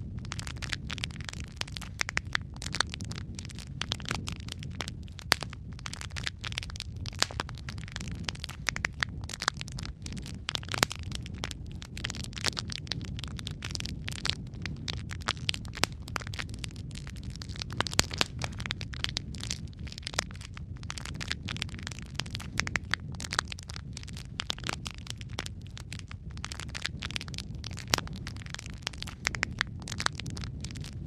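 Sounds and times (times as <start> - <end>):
fire popping and snapping: 0.0 - 31.0
low rumble of flames: 0.0 - 31.0.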